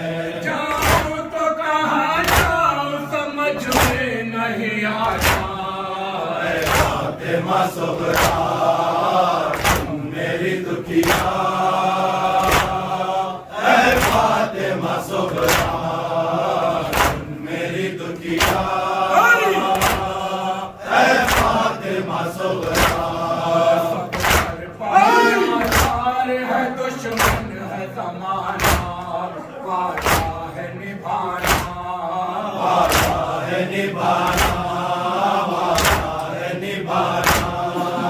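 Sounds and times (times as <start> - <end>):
men chanting in unison: 0.0 - 38.0
rhythmic chest-beating slaps: 0.0 - 38.0.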